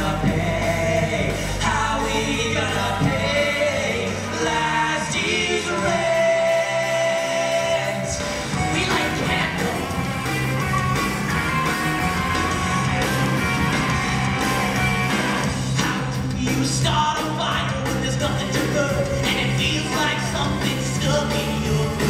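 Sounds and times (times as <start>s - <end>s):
amplified singing: 0.0s - 22.0s
loud rock music: 0.0s - 22.0s.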